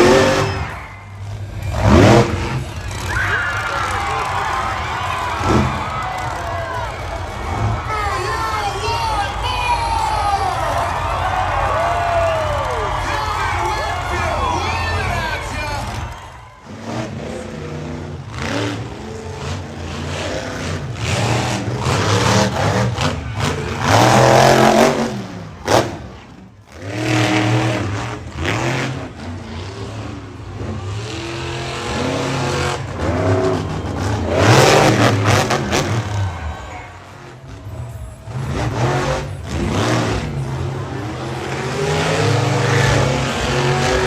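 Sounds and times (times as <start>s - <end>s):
monster truck engine revving: 0.0s - 44.0s.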